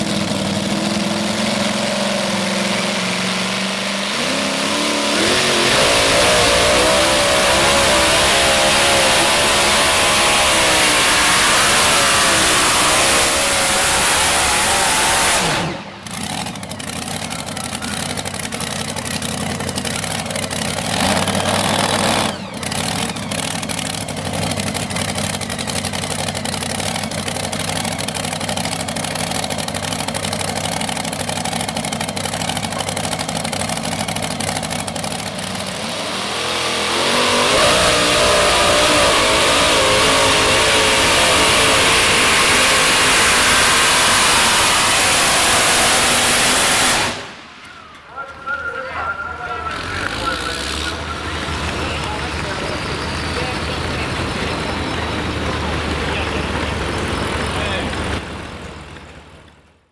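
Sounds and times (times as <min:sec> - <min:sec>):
pulling truck engine at full throttle: 0:00.0 - 0:59.9
truck engine running at low throttle: 0:00.0 - 0:59.9.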